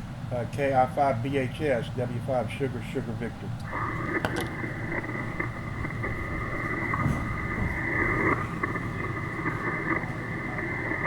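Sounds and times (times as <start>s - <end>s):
radio static hiss: 0.4s - 11.0s.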